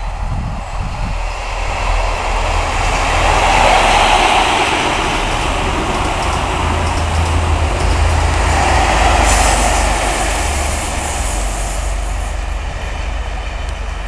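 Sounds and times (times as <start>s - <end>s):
diesel train engine passing: 0.0s - 14.0s
train wheels on rails: 0.0s - 14.0s.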